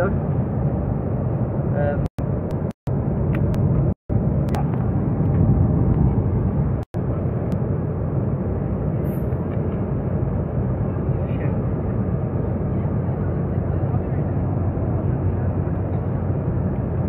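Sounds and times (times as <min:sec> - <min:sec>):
jet airliner cabin roar: 0:00.0 - 0:17.0.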